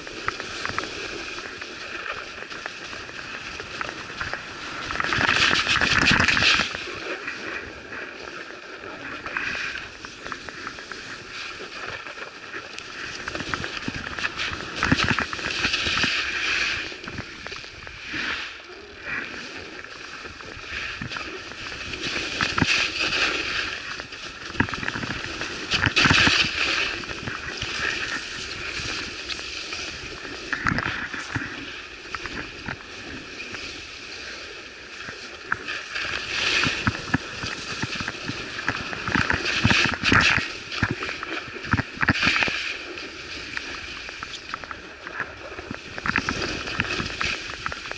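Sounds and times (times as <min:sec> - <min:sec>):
hard snow crackling: 0:00.0 - 0:47.9
skis scraping on snow: 0:00.0 - 0:47.9.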